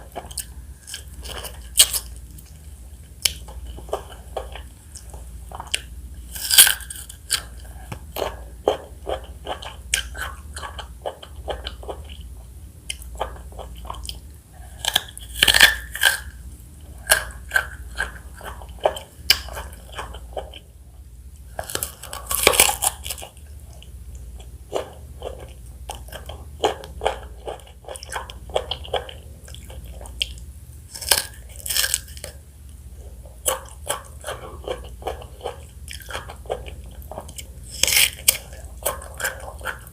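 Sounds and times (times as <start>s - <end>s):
chewing and biting fruit: 0.0s - 20.7s, 21.4s - 39.9s.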